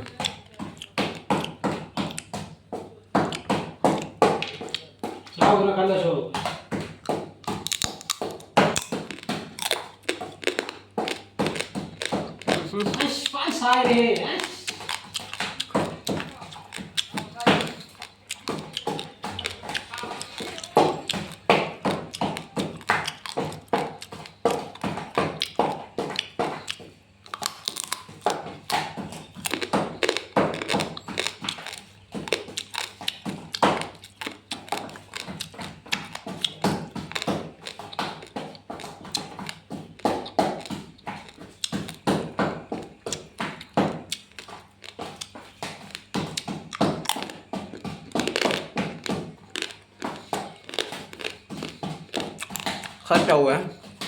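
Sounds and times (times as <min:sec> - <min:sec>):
crab shells cracking: 0:07.0 - 0:42.2, 0:42.8 - 0:53.3.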